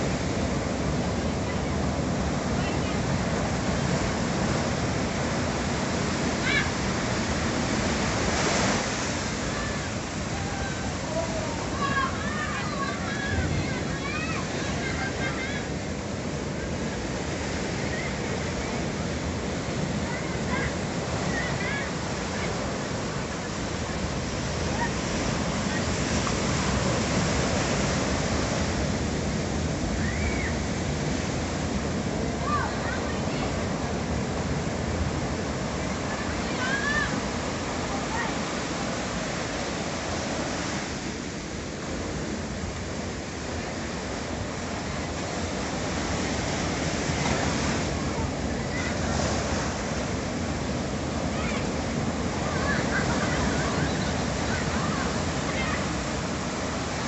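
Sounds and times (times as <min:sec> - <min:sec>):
ocean surf breaking on rocks: 0:00.0 - 0:57.0.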